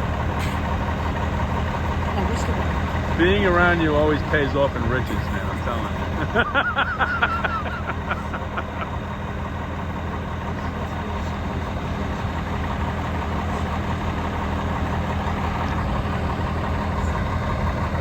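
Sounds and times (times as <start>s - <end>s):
heavy engine idling: 0.0s - 18.0s.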